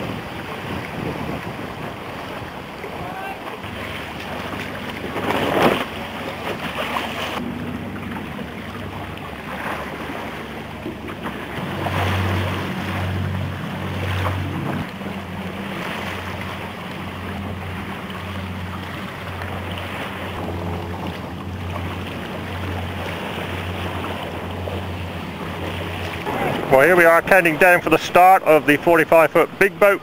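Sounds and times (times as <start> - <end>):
water noise from boat: 0.0 - 30.0
wind buffeting microphone: 0.0 - 30.0
low motor drone: 3.6 - 28.8.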